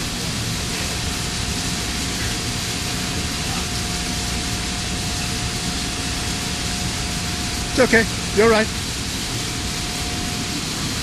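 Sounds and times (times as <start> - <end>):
faint constant tone: 0.0 - 11.0
steady rushing noise: 0.0 - 11.0.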